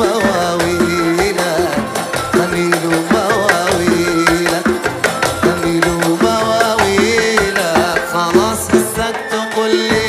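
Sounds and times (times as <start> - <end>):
goblet drums: 0.0 - 10.0
jingling frame drum: 0.0 - 10.0
keyboard melody: 0.0 - 10.0
oud: 0.0 - 10.0.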